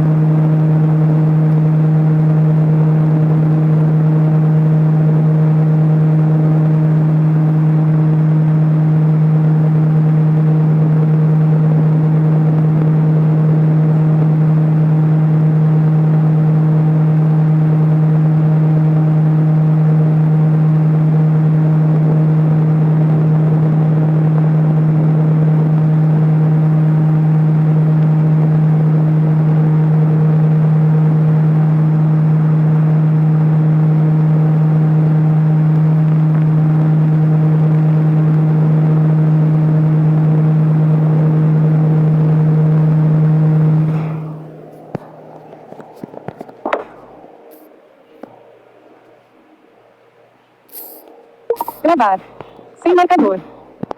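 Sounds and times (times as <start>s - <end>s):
electric fan motor hum: 0.0s - 46.2s.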